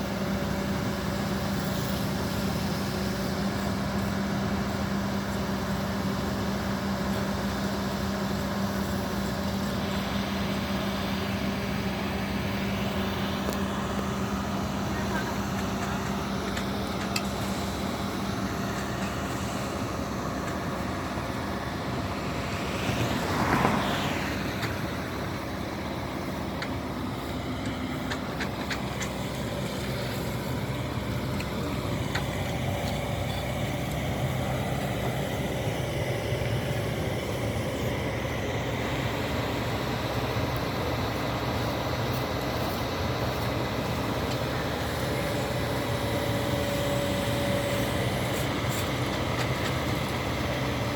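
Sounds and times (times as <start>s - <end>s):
diesel engines of construction machinery: 0.0s - 50.9s.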